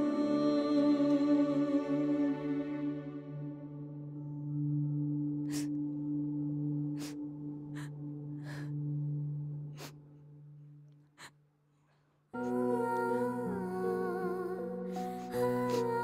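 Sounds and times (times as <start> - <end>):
sad instrumental melody: 0.0 - 11.2, 12.4 - 16.0.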